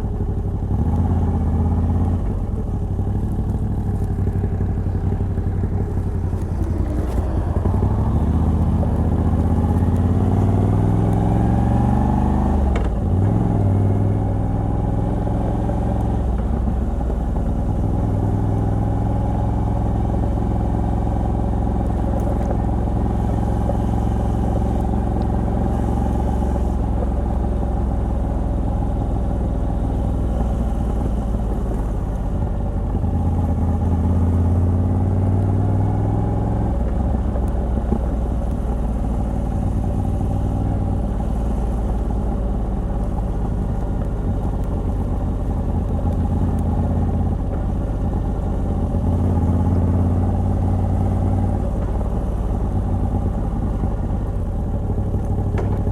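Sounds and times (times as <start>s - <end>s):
motorcycle v-twin engine running: 0.0s - 55.9s.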